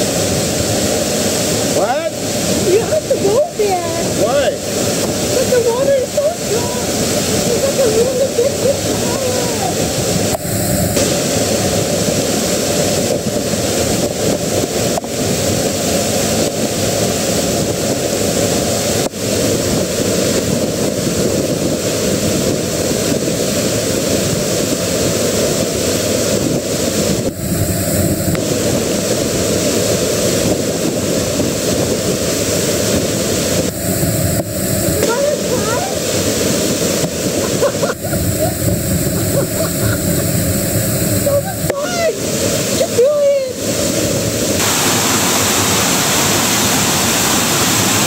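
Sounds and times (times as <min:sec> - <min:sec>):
water rushing: 0:00.0 - 0:48.0.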